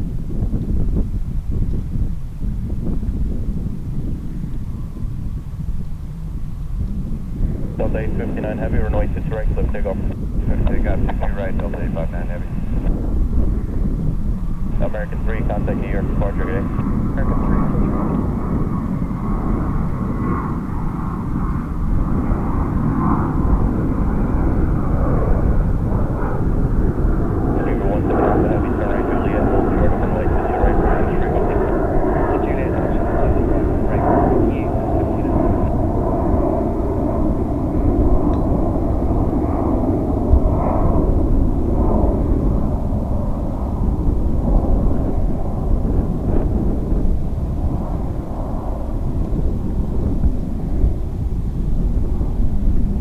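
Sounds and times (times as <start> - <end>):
jet engines roaring: 3.8 - 53.0.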